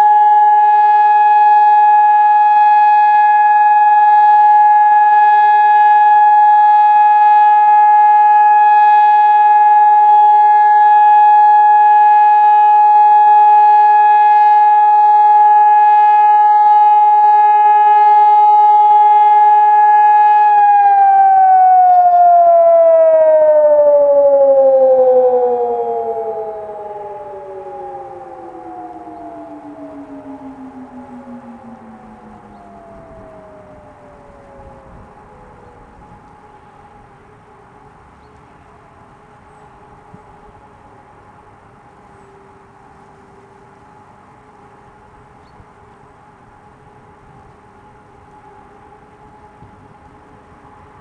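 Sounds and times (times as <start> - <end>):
civil defence siren tone: 0.0 - 51.0.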